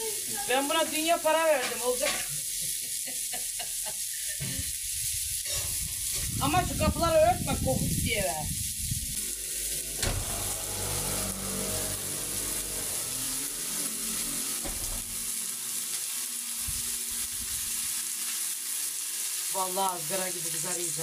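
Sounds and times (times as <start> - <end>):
meat sizzling on griddle: 0.0 - 21.0.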